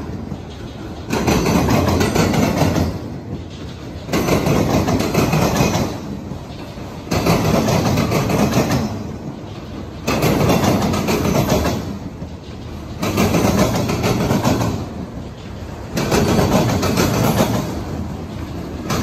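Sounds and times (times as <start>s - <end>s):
train wheels clacking on rails: 0.0s - 19.0s.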